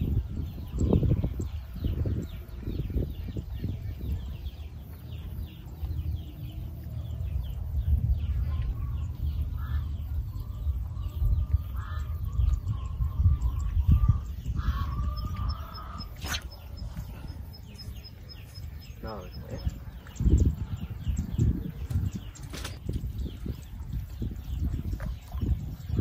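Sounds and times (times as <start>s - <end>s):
birds calling: 0.0s - 26.0s
steady low rumble: 0.0s - 26.0s.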